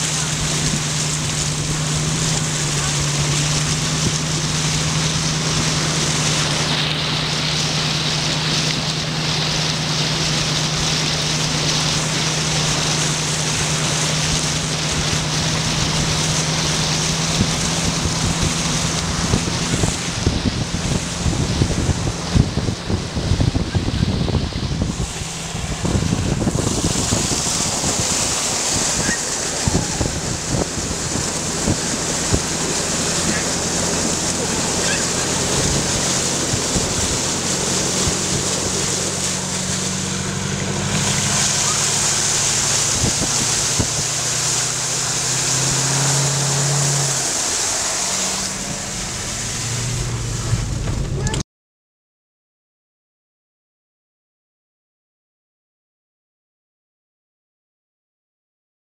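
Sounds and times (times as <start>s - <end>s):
car engine droning: 0.0s - 51.4s
water rushing and splashing: 0.0s - 51.4s
wind buffeting microphone: 0.0s - 51.4s.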